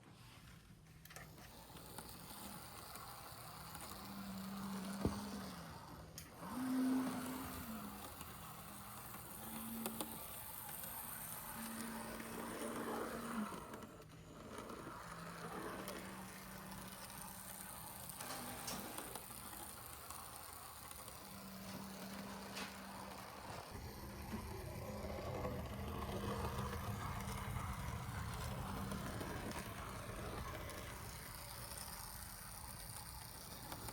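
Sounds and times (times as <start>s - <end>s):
model train motor humming: 1.0s - 33.9s.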